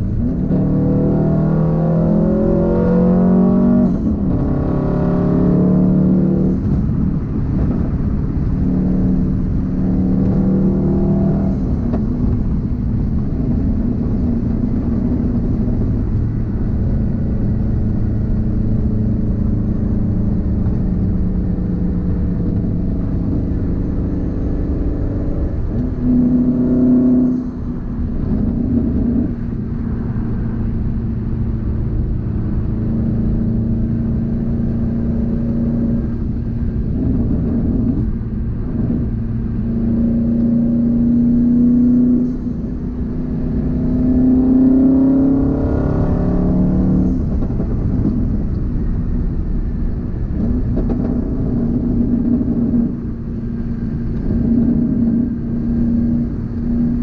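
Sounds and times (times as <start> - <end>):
car engine revving in cabin: 0.0 - 57.0.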